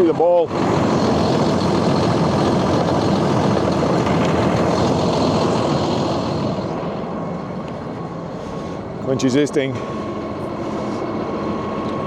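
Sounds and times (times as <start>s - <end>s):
tractor diesel engine idling: 0.3s - 11.0s.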